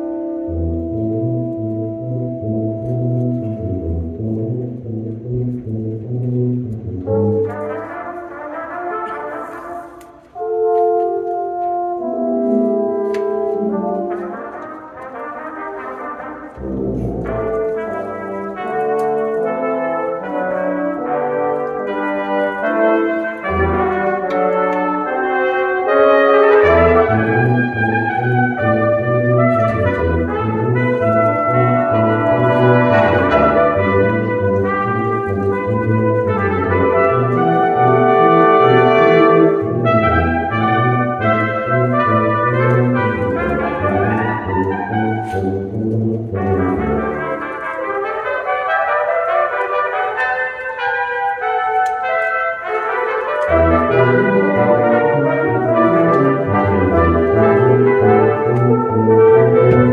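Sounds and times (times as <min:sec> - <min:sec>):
low brass bass line: 0:00.0 - 0:50.2, 0:53.5 - 0:59.9
brass quintet playing: 0:00.0 - 0:59.9.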